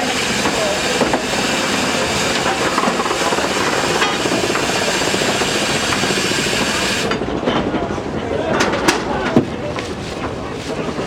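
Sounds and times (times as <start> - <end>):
train rushing and hissing: 0.0 - 11.0.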